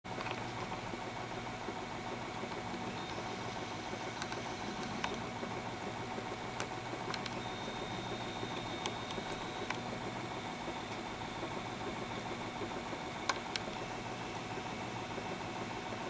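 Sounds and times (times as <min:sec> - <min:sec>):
sign motor hum: 0:00.1 - 0:16.0.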